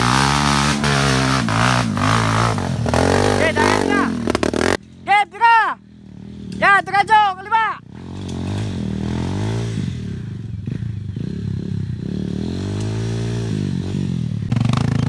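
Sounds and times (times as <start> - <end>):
dirt bike engine revving: 0.0 - 5.2, 5.9 - 15.0.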